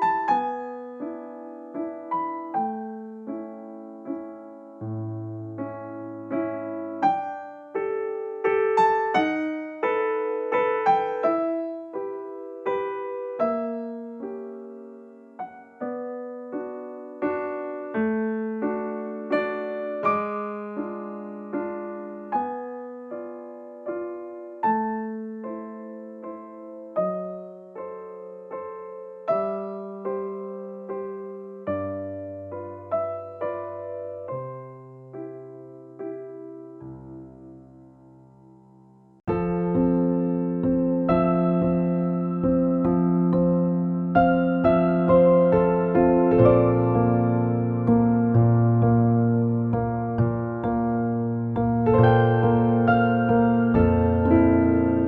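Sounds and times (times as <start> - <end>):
gentle piano music: 0.0 - 55.0.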